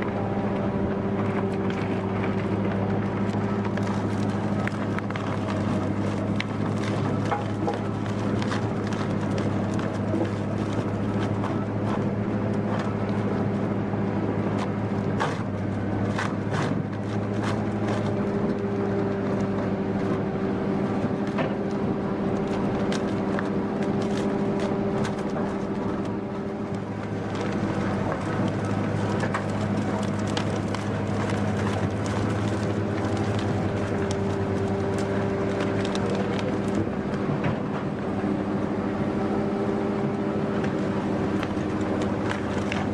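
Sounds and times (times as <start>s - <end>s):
wood cracking and knocking: 0.0s - 38.4s, 39.4s - 42.9s
wood chipper engine running: 0.0s - 42.9s.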